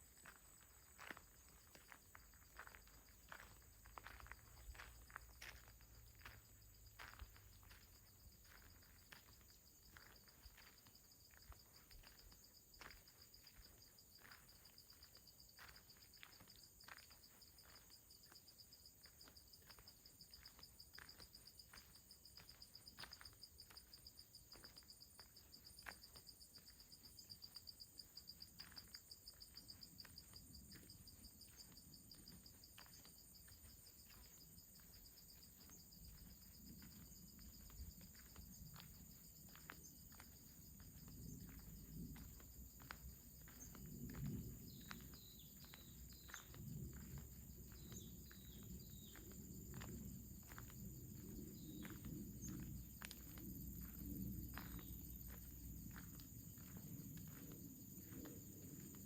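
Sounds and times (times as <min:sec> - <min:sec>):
crickets trilling: 0:00.0 - 0:59.0
soft footsteps on a path: 0:00.0 - 0:59.0.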